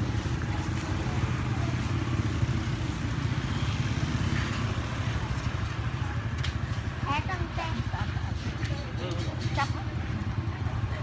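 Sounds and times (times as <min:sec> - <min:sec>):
low engine-like rumbling: 0:00.0 - 0:11.0.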